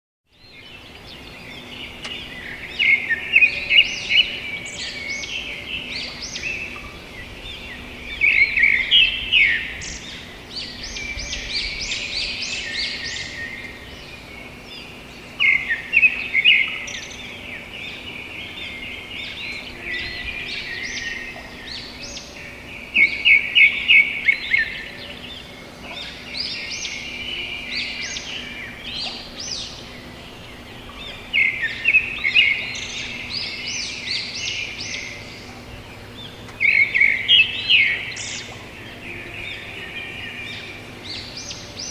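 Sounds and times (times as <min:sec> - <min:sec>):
songbird singing: 0:00.3 - 0:41.9.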